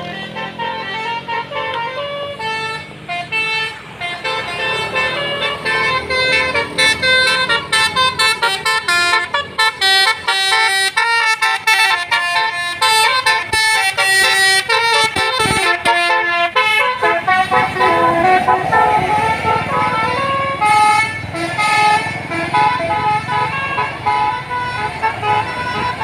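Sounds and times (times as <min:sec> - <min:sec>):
musical air horn melody: 0:00.0 - 0:26.0.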